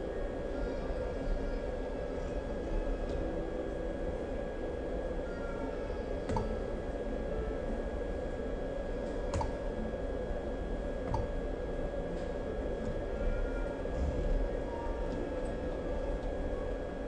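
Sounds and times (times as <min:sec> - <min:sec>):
electrical hum: 0:00.0 - 0:17.0
faint high whine: 0:00.0 - 0:17.0.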